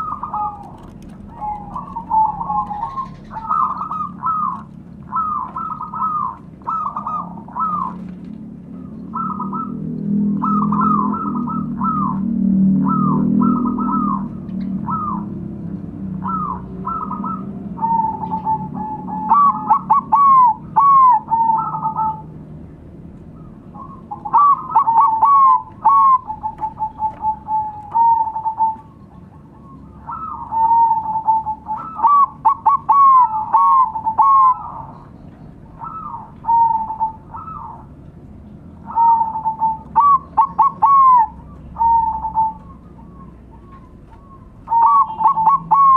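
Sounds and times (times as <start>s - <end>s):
doves cooing: 0.0s - 22.5s, 23.2s - 45.9s.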